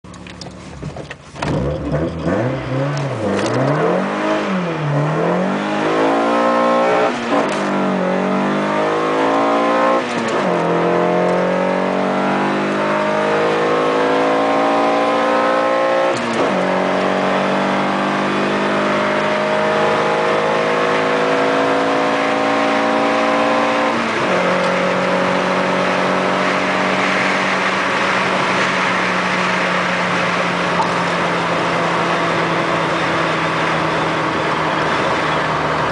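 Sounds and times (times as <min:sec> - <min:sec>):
car engine accelerating: 0:00.1 - 0:35.9.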